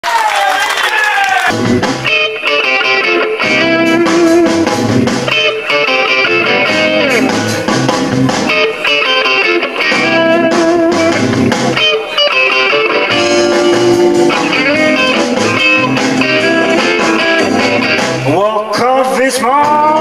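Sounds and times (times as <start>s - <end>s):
electric guitar: 1.5s - 20.0s.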